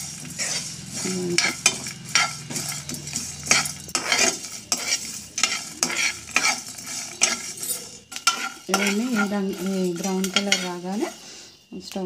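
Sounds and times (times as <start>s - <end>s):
spoon scraping spices in pan: 0.0s - 12.0s.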